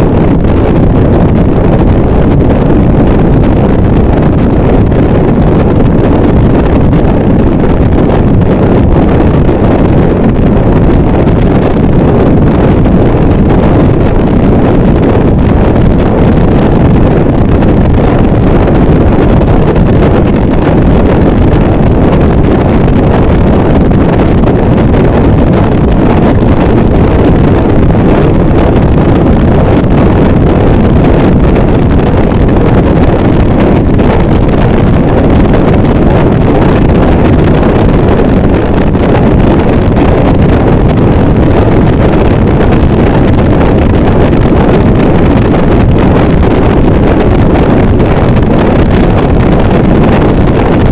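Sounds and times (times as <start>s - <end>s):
loud distorted static: 0.0s - 50.9s.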